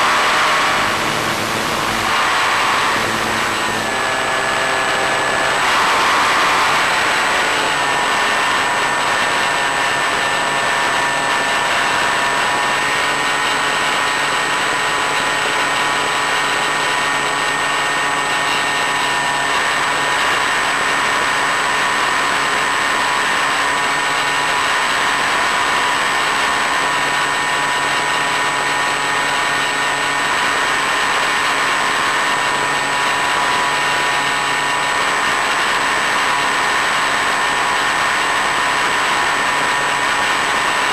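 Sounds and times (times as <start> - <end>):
model plane electric motor whine: 0.0 - 40.9.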